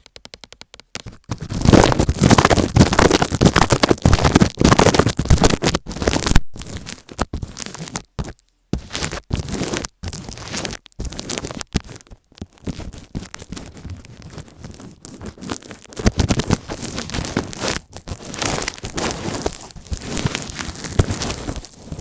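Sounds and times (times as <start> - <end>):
crackling and scraping on microphone: 0.0 - 22.0.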